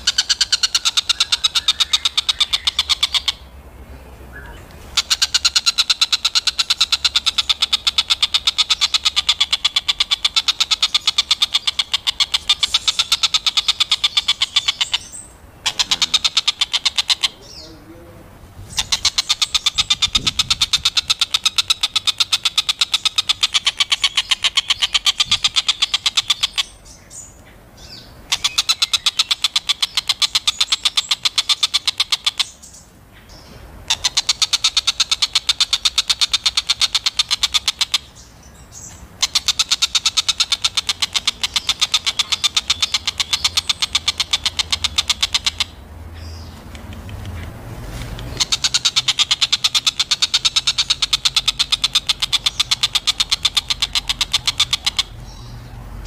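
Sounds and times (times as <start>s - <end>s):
bird chattering: 0.0s - 3.5s, 4.3s - 56.0s.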